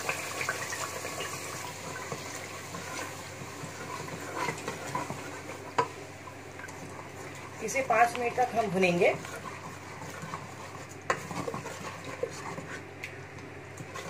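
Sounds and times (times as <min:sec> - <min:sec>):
spice paste sizzling in oil: 0:00.0 - 0:12.9.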